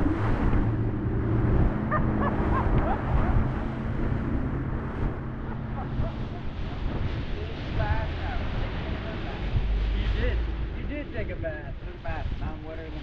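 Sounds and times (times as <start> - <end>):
boat motor running: 0.0 - 13.0
water noise: 0.0 - 13.0
wind on microphone: 0.0 - 13.0.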